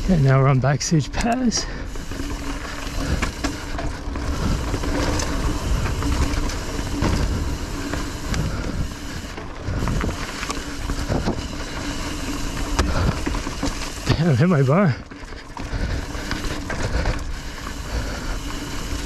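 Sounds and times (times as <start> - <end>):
bike tyres rolling over dirt: 0.0 - 19.0
bike clicks and knocks: 1.1 - 19.0.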